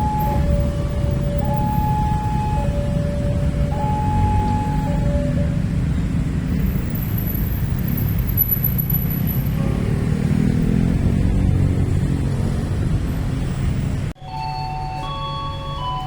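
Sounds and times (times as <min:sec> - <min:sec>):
diesel train rumbling past: 0:00.0 - 0:16.0.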